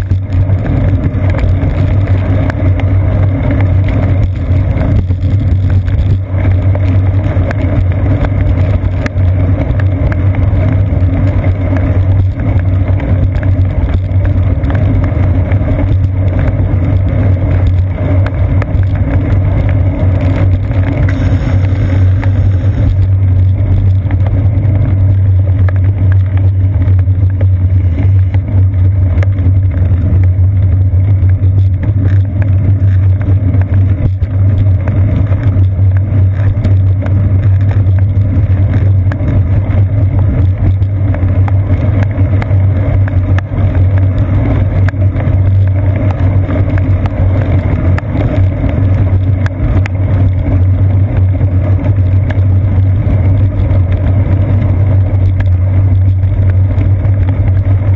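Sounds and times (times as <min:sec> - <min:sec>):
bicycle tyres on wet pavement: 0:00.0 - 0:57.9
steady low hum: 0:00.0 - 0:57.9.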